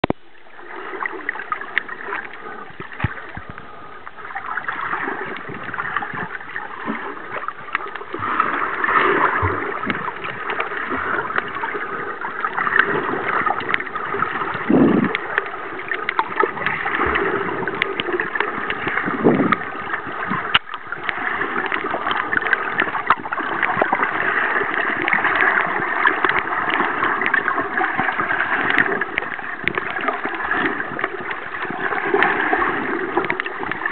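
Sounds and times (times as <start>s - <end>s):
small clicks and crackles: 0.0s - 33.9s
water gurgles: 0.0s - 33.9s.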